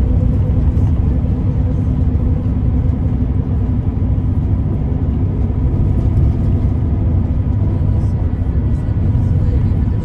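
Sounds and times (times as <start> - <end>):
coach diesel engine drone: 0.0 - 10.0
road noise: 0.0 - 10.0.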